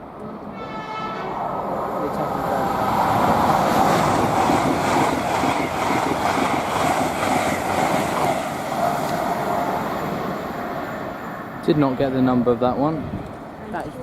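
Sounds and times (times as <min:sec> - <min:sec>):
train passing at high speed: 0:00.0 - 0:14.0.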